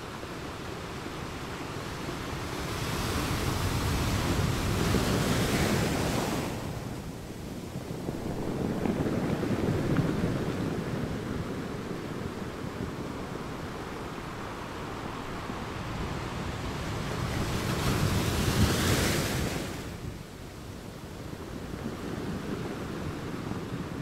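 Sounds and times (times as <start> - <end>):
low wind rumble on microphone: 0.0 - 24.0.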